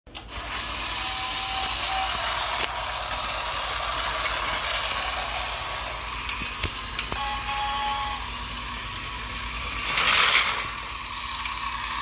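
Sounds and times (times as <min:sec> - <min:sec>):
toy train motor whirring: 0:00.2 - 0:12.0.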